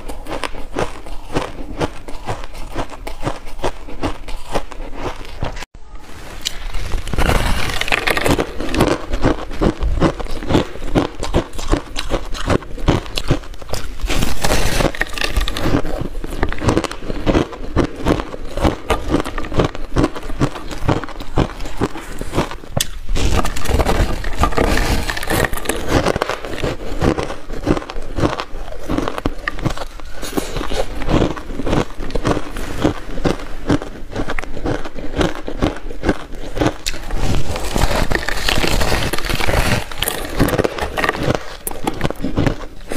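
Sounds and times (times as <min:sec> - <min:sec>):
crunching and chewing ice: 0:00.0 - 0:05.7, 0:06.3 - 0:42.9.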